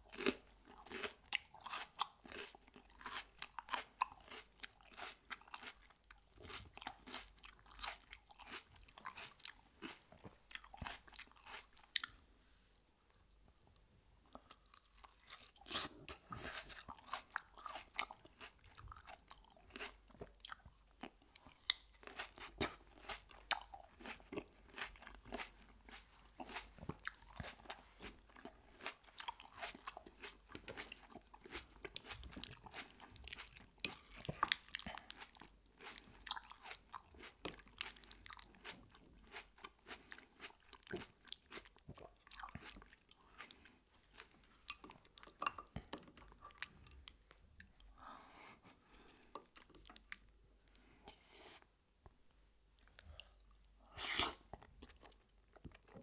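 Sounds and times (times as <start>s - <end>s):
chewing and crunching food: 0.0s - 12.3s, 14.2s - 48.0s, 48.6s - 51.5s, 52.7s - 56.0s.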